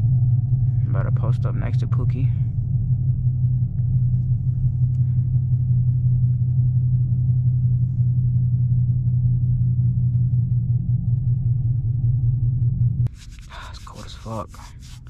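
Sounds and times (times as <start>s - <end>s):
car engine exhaust rumble: 0.0s - 15.0s.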